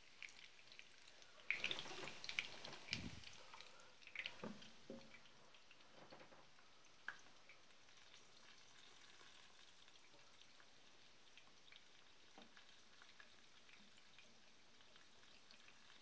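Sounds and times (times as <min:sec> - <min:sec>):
cutlets frying in a pan: 0:00.0 - 0:16.0.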